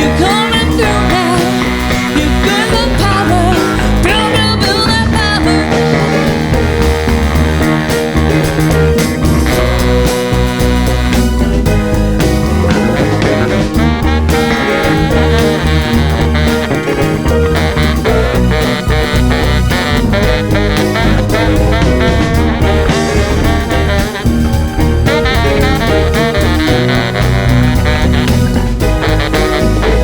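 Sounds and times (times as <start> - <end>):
drums and bass beat: 0.0 - 30.0
horn line: 0.0 - 30.0.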